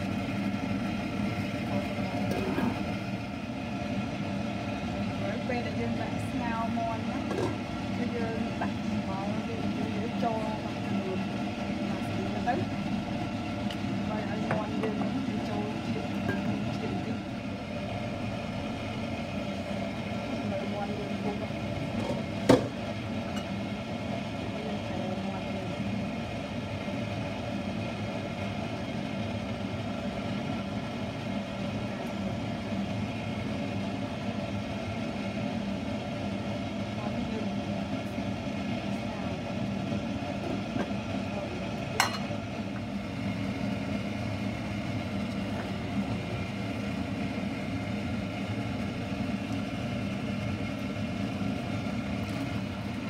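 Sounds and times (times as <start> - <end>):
water boiling in a pot: 0.0 - 53.0.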